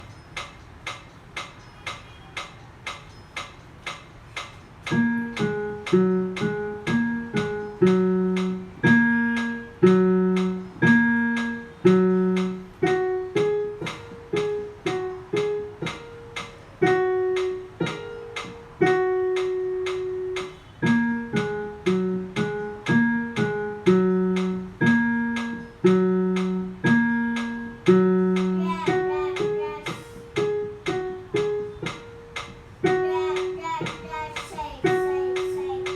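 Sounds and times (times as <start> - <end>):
metronome ticking: 0.0 - 35.9
simple tune of single notes: 0.0 - 35.9.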